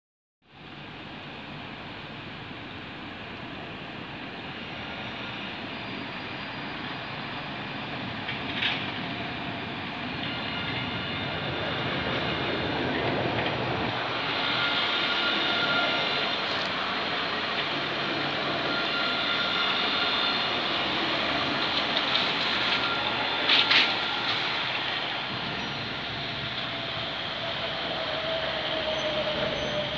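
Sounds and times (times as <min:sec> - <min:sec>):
tram high whine: 0:00.5 - 0:29.9
tram rolling noise: 0:00.5 - 0:29.9.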